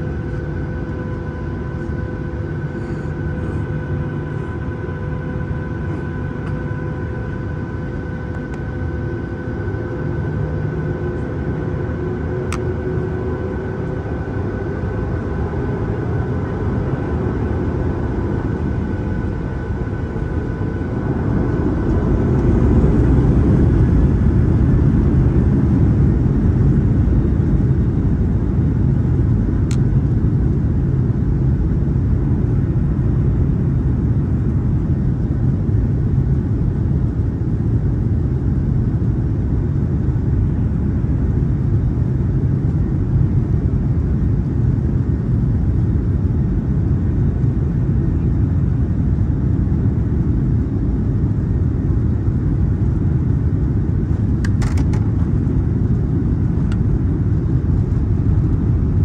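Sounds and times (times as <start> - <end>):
jet engines on takeoff roll: 0.0 - 59.0.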